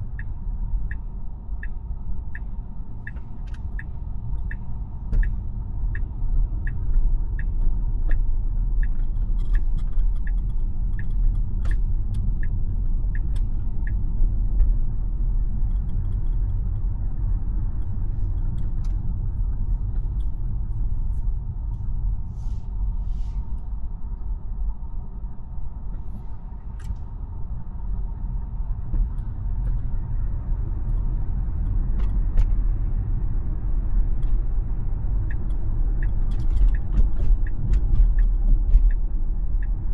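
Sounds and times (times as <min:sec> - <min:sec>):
turn signal ticking: 0:00.0 - 0:20.7, 0:28.2 - 0:39.9
road and tyre rumble: 0:00.0 - 0:39.9.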